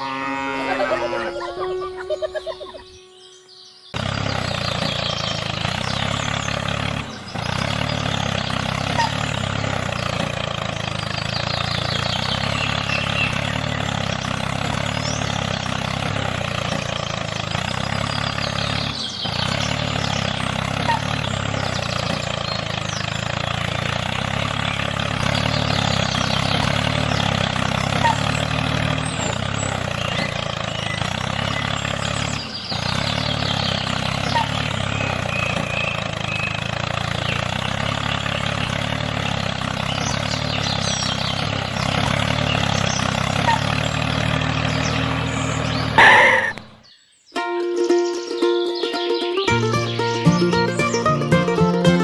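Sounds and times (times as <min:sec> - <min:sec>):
small engine running: 0:00.0 - 0:46.4, 0:47.4 - 0:52.0.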